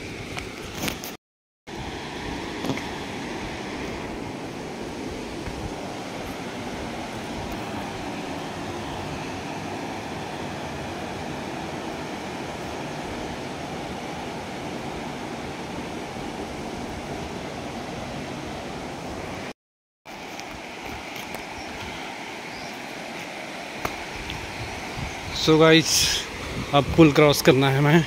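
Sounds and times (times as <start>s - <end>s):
river rushing over boulders: 0.0s - 19.5s, 20.1s - 28.0s.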